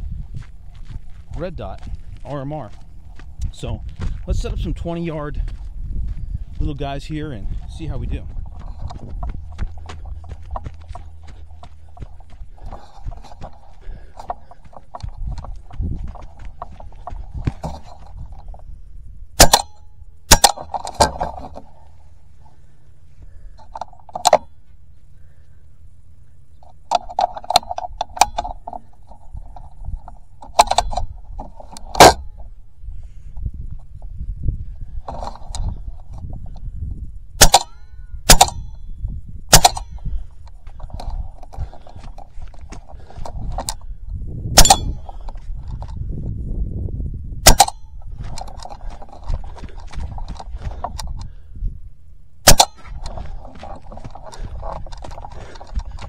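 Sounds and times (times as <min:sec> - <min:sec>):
footsteps on dirt: 0:00.0 - 0:19.0, 0:20.4 - 0:36.8, 0:38.6 - 0:46.4, 0:47.7 - 0:56.0
air rifle and gear rattling: 0:00.0 - 0:25.5, 0:26.2 - 0:46.3, 0:47.4 - 0:51.7, 0:52.3 - 0:56.0.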